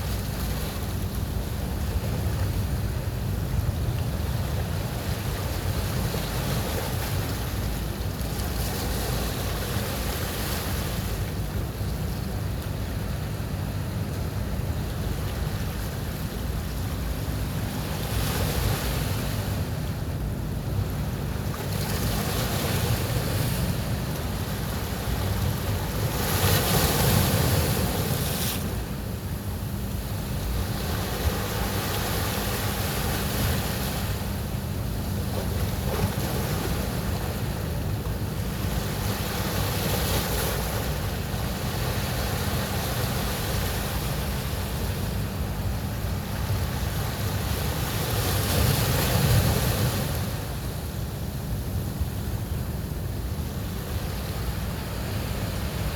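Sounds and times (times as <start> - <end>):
waves breaking on a beach: 0.0 - 55.9.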